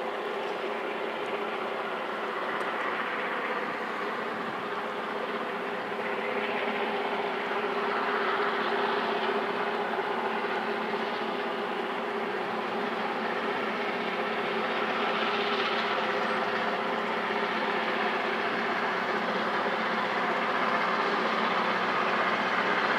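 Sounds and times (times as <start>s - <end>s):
train engine drone: 0.0s - 22.9s.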